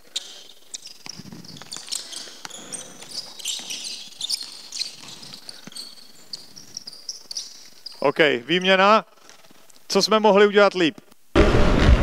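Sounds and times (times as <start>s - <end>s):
shoes squeaking: 0.0s - 10.0s.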